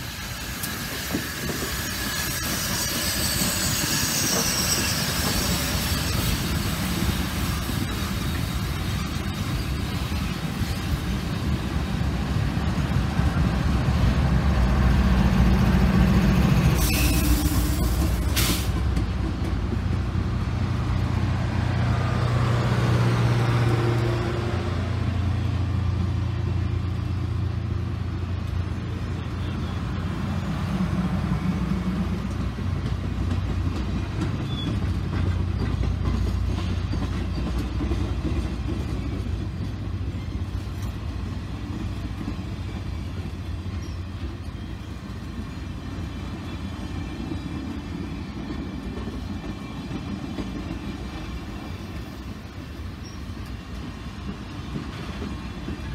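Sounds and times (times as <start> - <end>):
train cars rumbling on rails: 0.0 - 55.9.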